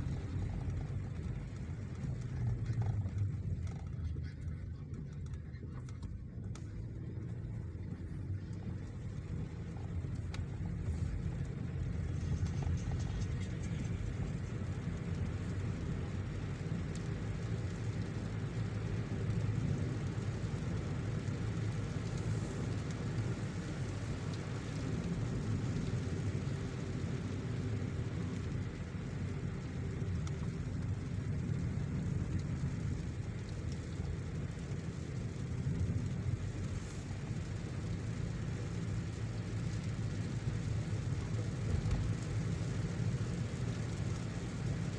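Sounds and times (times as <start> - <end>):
road and engine rumble: 0.0 - 44.9
rain hiss: 7.0 - 44.9.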